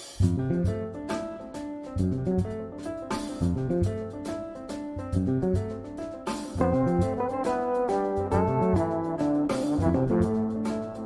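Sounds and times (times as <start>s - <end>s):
jazz combo playing: 0.0s - 11.0s
walking bass line: 0.2s - 11.0s.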